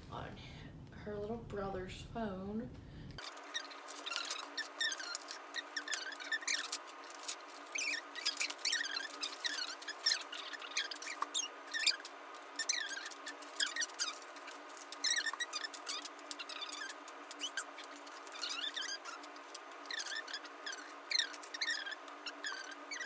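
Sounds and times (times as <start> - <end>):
paper rustling: 3.2 - 22.8
markers squeaking on paper: 3.2 - 23.0.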